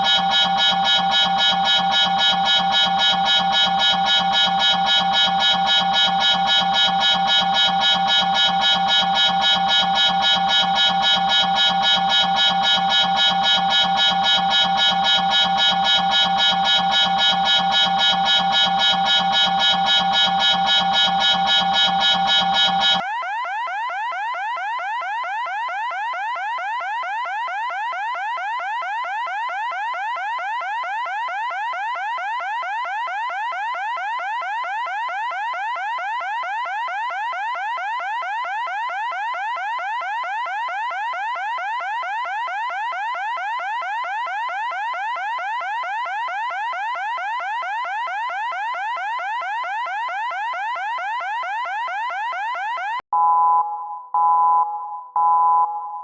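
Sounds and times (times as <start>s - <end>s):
electronic alarm siren: 0.0s - 53.0s.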